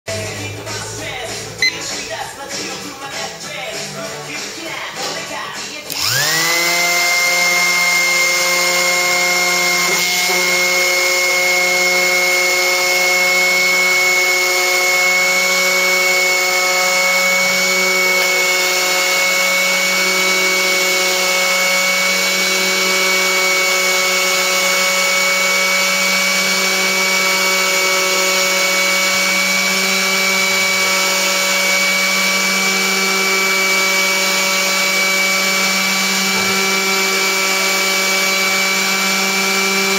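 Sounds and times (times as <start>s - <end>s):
electric power tool whining: 4.7s - 39.9s.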